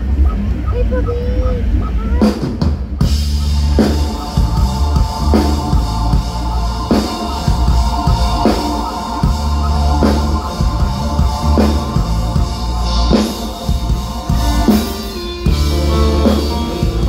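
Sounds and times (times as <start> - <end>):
drum kit: 0.0 - 17.0
rock band playing live: 0.0 - 17.0
heavy accented band hits: 1.8 - 17.0.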